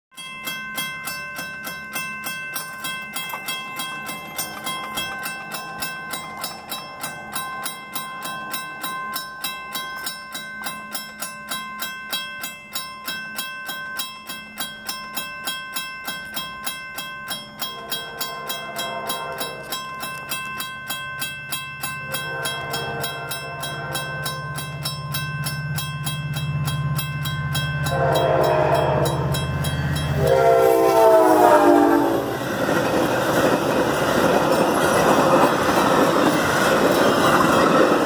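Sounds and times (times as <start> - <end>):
railroad crossing bell ringing: 0.1 - 38.0.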